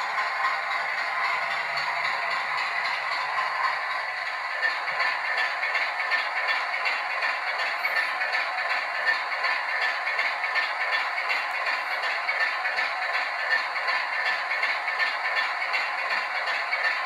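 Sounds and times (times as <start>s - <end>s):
diesel engine sound from small speaker: 0.0s - 17.0s
model train wheels rattling on rail: 0.0s - 17.0s.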